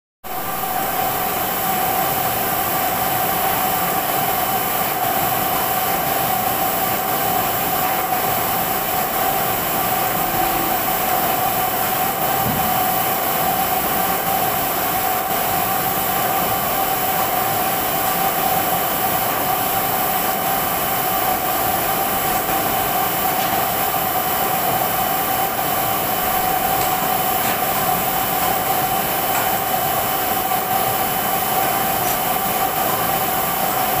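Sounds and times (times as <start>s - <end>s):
constant machine whine: 0.3s - 34.0s
printing press whirring: 0.3s - 34.0s.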